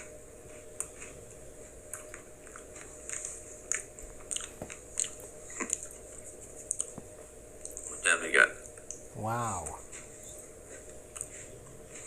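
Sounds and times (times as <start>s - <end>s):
crunchy chewing: 0.0s - 7.9s, 9.8s - 12.0s.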